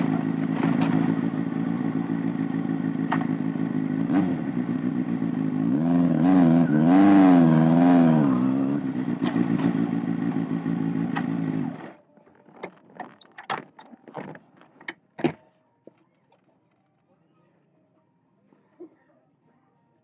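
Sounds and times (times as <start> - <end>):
motorcycle engine idling and revving: 0.0 - 16.8.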